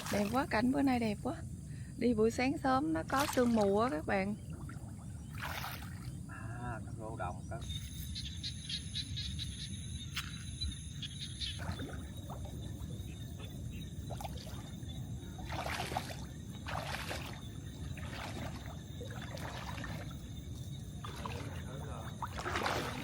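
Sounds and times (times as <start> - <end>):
water splashing and trickling: 0.0 - 6.4, 10.1 - 23.0.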